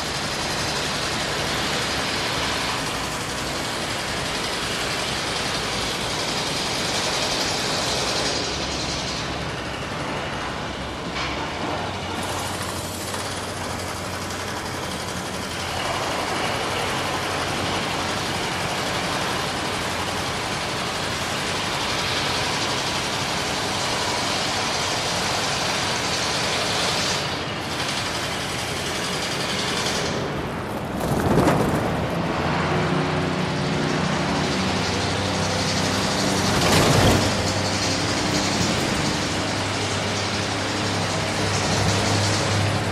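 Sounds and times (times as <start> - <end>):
generator running: 0.0 - 42.9.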